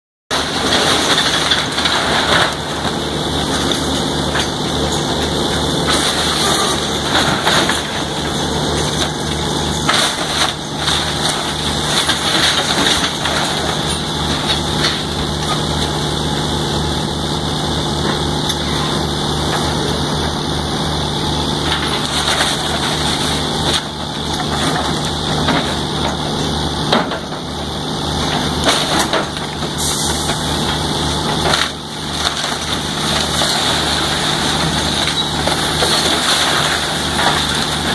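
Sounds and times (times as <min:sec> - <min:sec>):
diesel engine running: 0:00.3 - 0:37.9
wood and debris cracking: 0:00.3 - 0:37.9.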